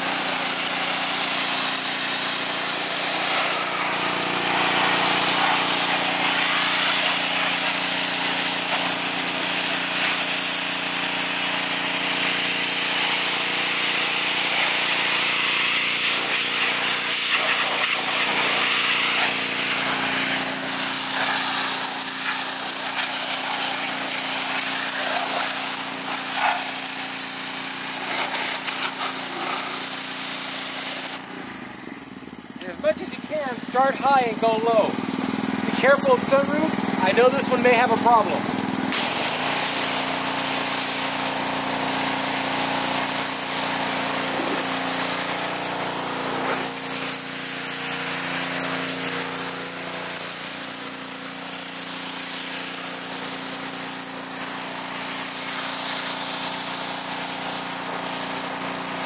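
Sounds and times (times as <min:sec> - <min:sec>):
high-pressure water jet hissing: 0:00.0 - 0:59.0
pressure washer motor hum: 0:00.0 - 0:59.0.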